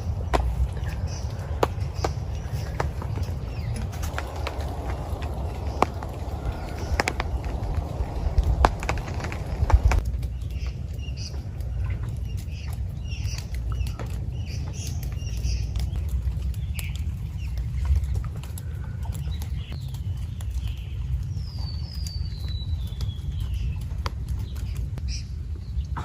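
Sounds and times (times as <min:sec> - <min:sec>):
birds chirping: 0:00.0 - 0:26.0
low rumble: 0:00.0 - 0:26.0.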